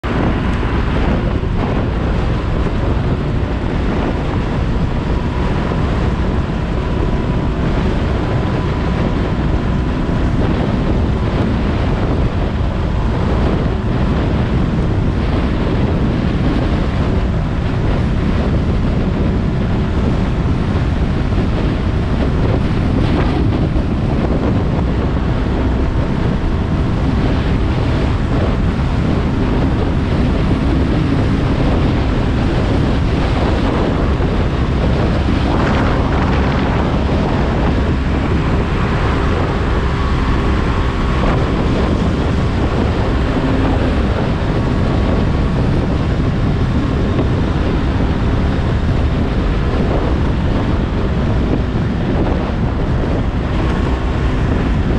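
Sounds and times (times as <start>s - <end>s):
motorbike engine: 0.0s - 54.9s
wind buffeting microphone: 0.0s - 54.9s.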